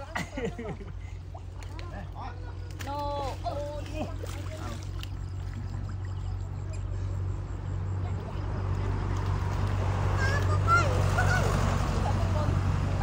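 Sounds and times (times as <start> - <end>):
water pump engine humming: 0.0 - 13.0
water trickling and sloshing: 0.0 - 13.0.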